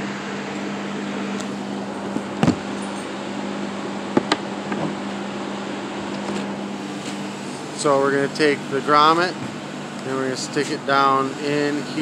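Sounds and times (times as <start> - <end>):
fan-like machine humming: 0.0 - 12.0.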